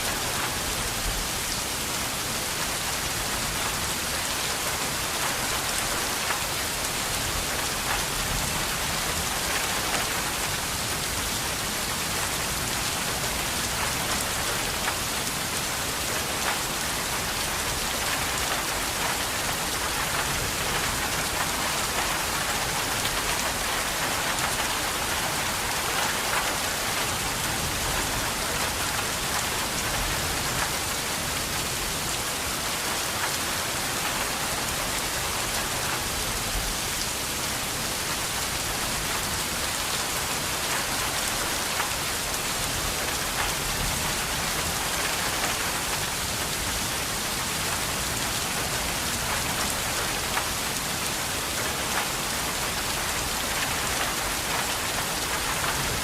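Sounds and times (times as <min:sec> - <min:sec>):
heavy rain on a surface: 0:00.0 - 0:56.0.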